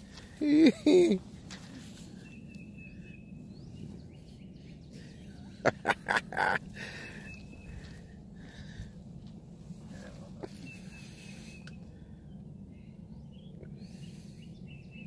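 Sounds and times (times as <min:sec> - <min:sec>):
birds calling: 0:00.0 - 0:09.0, 0:09.9 - 0:15.0.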